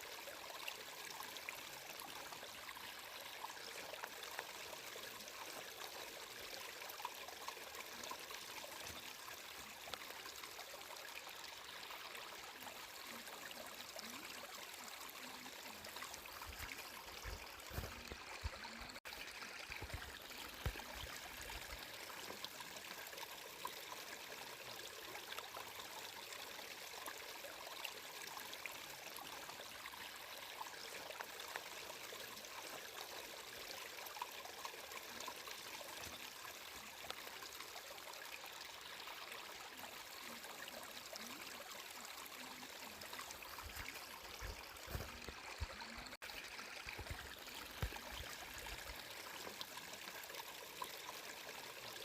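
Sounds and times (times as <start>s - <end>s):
water trickling in stream: 0.0s - 52.0s.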